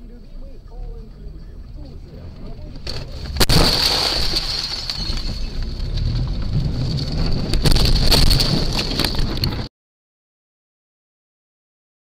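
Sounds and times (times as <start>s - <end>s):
car interior road rumble: 0.0s - 9.7s.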